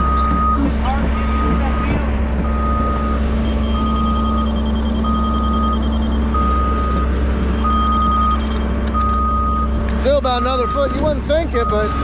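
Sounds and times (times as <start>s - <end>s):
diesel engine running: 0.0s - 12.0s
reverse alarm beeping: 0.0s - 12.0s.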